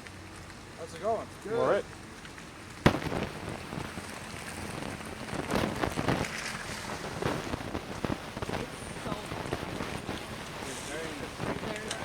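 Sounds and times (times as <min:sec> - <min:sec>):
rain pattering: 0:00.0 - 0:12.0
gusting wind: 0:01.8 - 0:12.0.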